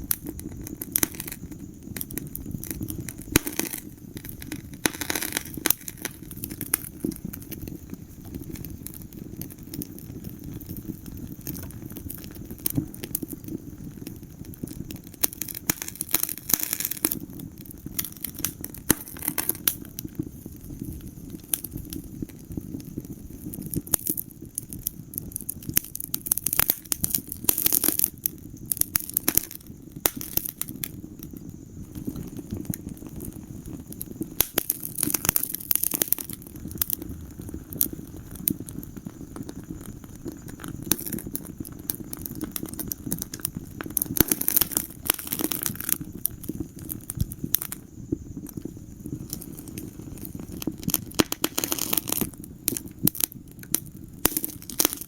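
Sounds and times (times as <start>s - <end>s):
burning logs popping: 0.0s - 55.0s
low rumble of flames: 0.0s - 55.0s.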